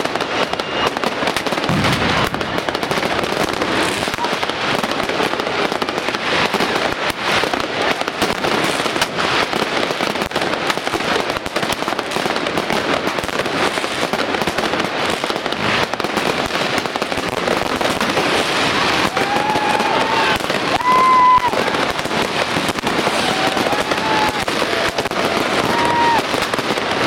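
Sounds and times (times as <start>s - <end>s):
fireworks and firecrackers crackling: 0.0s - 27.0s.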